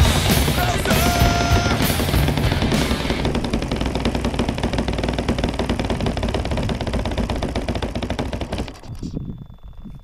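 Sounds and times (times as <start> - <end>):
model plane engine idling: 0.0 - 9.7.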